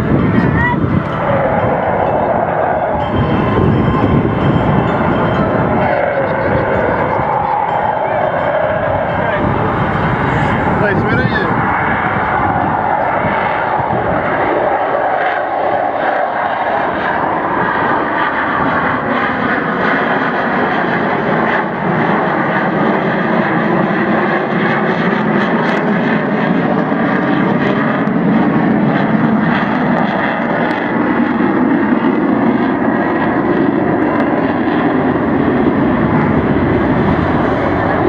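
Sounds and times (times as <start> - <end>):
fighter jet roar: 0.0 - 38.0.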